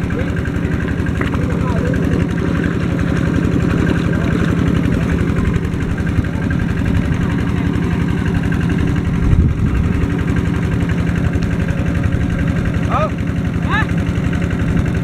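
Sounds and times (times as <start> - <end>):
water pump engine running: 0.0 - 15.0.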